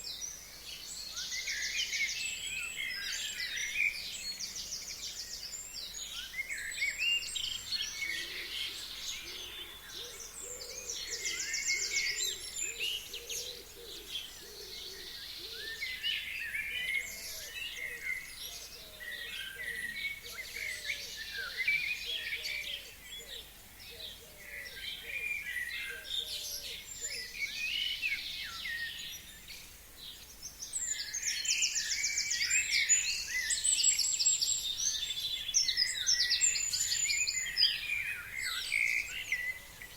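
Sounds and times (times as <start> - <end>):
songbird chorus: 0.0 - 39.9.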